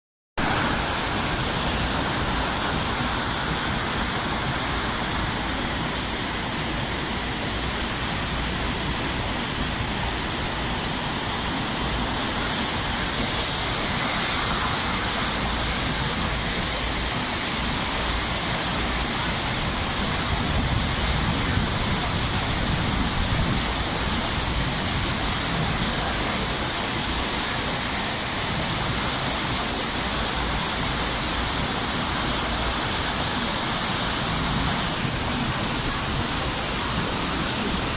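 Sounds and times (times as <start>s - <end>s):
loud rushing water: 0.4s - 37.9s.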